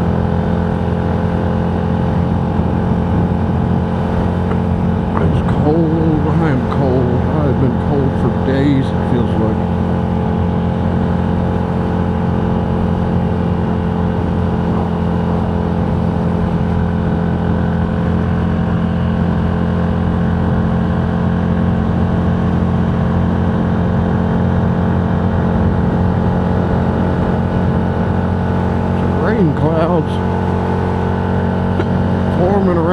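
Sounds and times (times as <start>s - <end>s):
vehicle engine and road noise: 0.0s - 32.9s.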